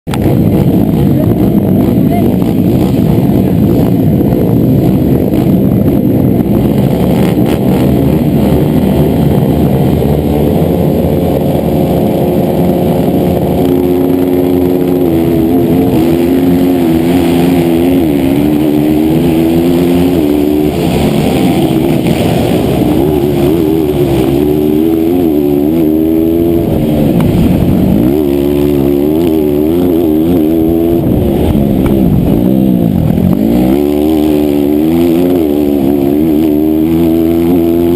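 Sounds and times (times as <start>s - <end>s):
racing motorcycle engine revving: 0.1s - 37.9s.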